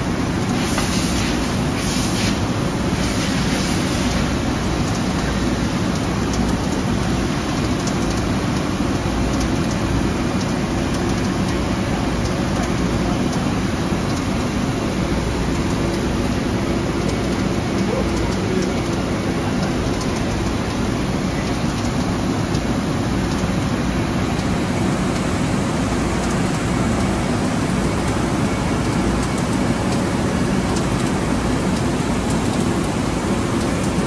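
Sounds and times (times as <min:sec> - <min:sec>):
coolant hissing: 0:00.0 - 0:34.0.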